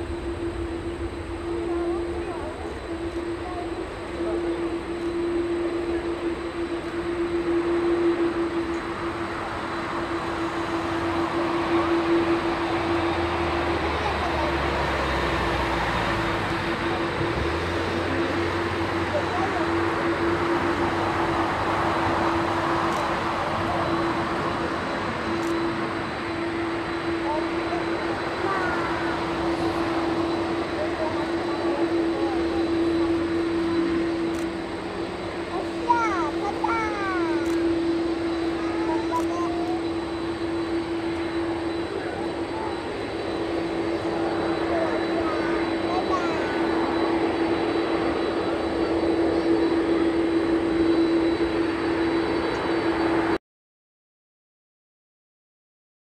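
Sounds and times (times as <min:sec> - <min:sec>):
jet engines at takeoff: 0:00.0 - 0:53.4
steady hum: 0:00.0 - 0:53.4.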